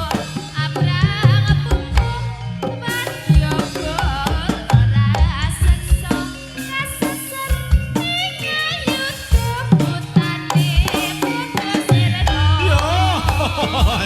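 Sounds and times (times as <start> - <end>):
wavering melody: 0.0 - 14.0.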